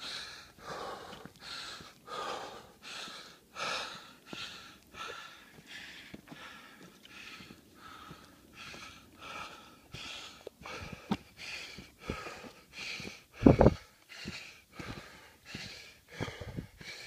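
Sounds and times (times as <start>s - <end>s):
heavy rhythmic panting: 0.0s - 17.0s.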